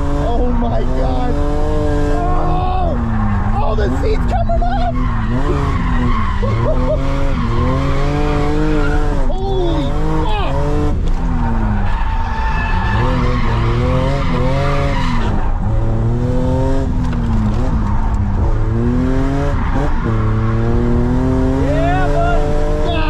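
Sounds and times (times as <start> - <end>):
car engine revving: 0.0 - 23.0
tyres skidding: 0.0 - 23.0.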